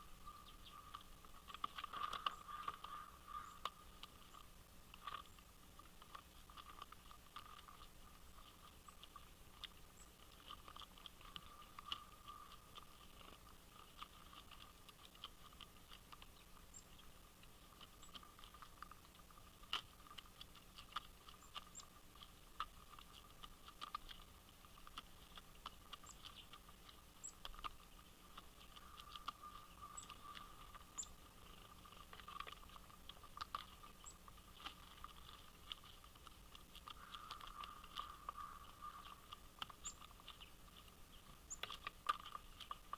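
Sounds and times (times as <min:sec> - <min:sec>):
birds pecking at seed: 0:00.0 - 0:42.9.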